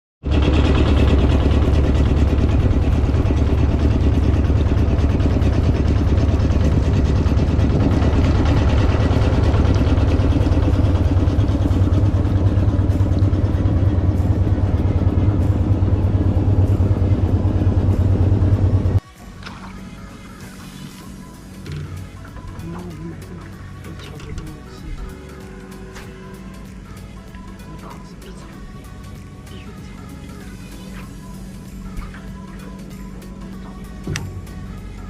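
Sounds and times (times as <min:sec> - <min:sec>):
engine running loudly: 0:00.2 - 0:35.0.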